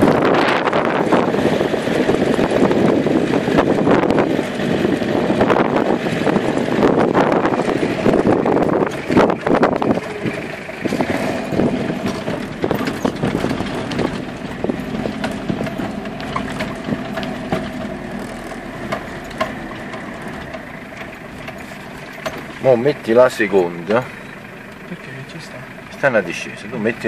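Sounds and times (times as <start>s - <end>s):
wind buffeting microphone: 0.0s - 22.8s
vehicle body knocks and rattles: 0.0s - 24.9s
off-road vehicle engine running: 0.0s - 27.0s.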